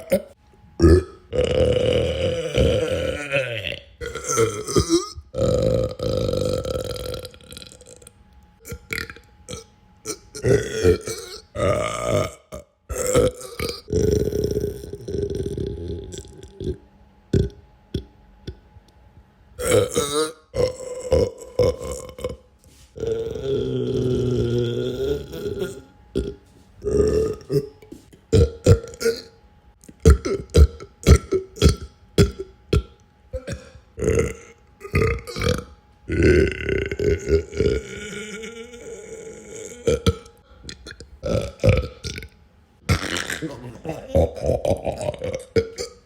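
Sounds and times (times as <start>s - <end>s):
person belching: 0.0s - 18.6s, 19.6s - 46.0s
person burping: 0.0s - 18.6s, 19.6s - 46.0s.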